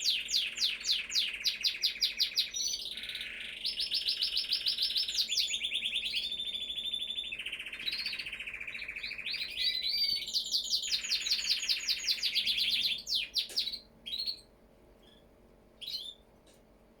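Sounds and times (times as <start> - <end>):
canary singing trills: 0.0 - 16.3.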